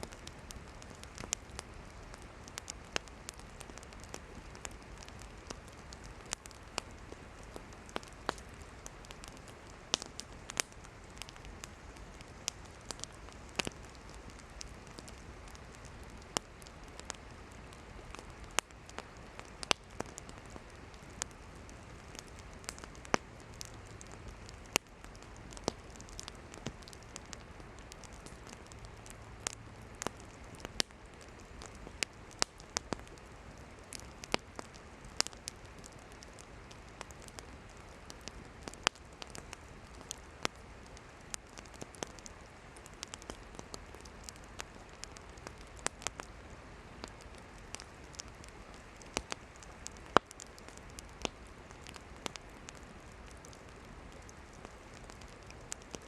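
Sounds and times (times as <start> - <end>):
campfire flames hissing: 0.0 - 56.0
firewood popping and crackling: 0.0 - 56.0.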